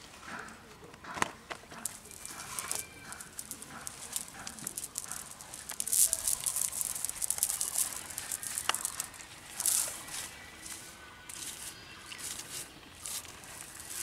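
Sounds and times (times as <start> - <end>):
net rustling with wet weed: 1.9 - 14.0.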